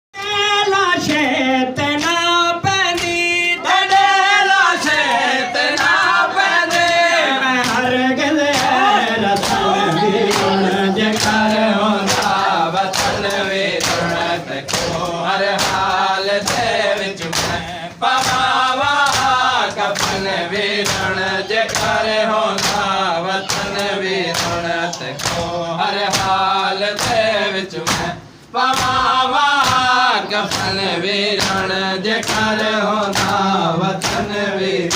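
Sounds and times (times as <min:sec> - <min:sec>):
voices chanting in chorus: 0:00.2 - 0:34.9.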